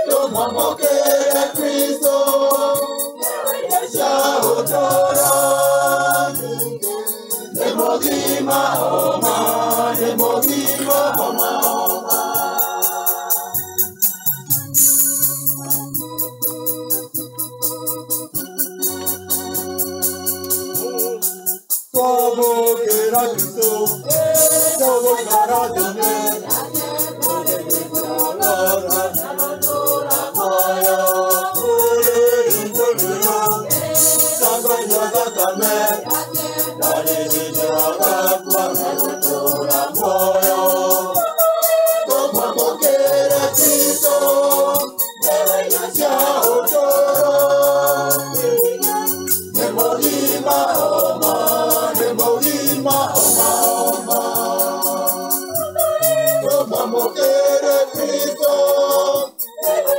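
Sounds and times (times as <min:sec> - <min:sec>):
choir singing: 0:00.0 - 0:14.2, 0:22.0 - 0:59.9
electronic organ chords: 0:00.0 - 0:59.9
steady ticking beat: 0:00.0 - 0:59.9.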